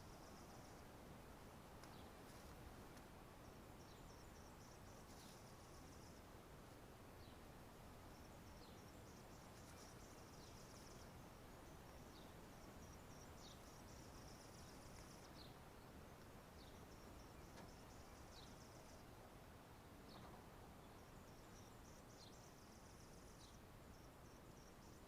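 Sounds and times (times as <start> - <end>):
insects chirping: 0.0 - 25.0
low hiss: 0.0 - 25.0.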